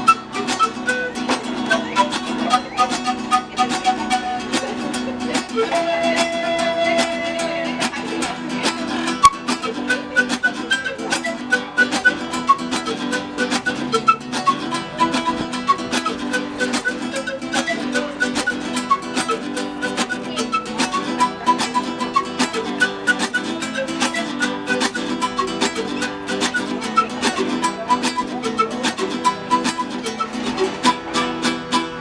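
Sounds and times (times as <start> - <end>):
fast acoustic guitar music: 0.0 - 32.0.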